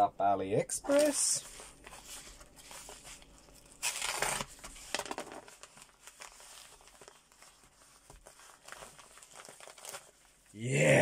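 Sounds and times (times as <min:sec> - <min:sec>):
envelope paper crinkling: 0:00.9 - 0:10.5.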